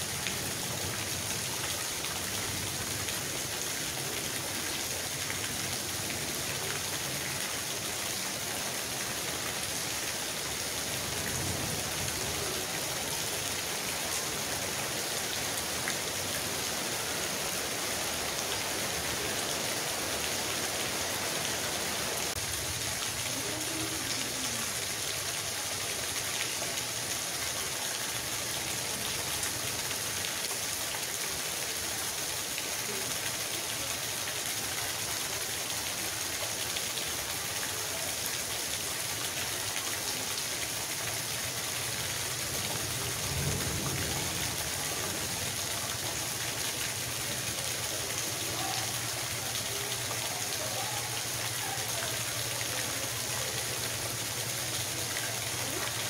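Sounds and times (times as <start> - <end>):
rain falling on gravel: 0.0 - 56.0.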